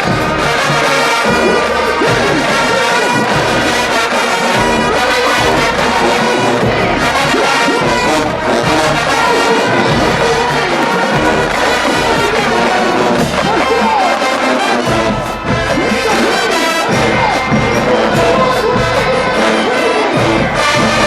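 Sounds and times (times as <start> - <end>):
marching band brass music: 0.0 - 21.0.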